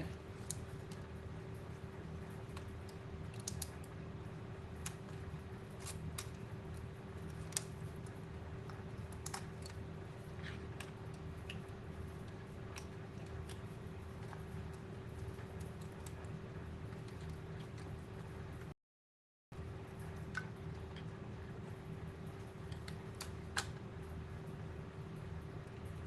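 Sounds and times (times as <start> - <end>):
electrical hum: 0.0 - 18.8, 19.5 - 26.0.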